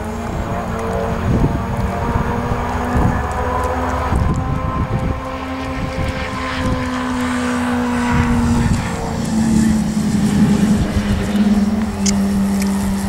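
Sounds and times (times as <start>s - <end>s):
model plane motor droning: 0.0s - 13.0s.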